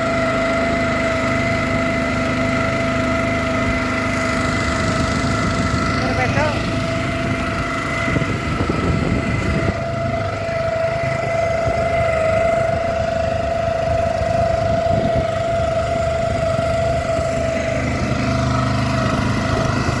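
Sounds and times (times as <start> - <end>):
petrol engine running: 0.0 - 20.0
propeller whine: 0.0 - 20.0.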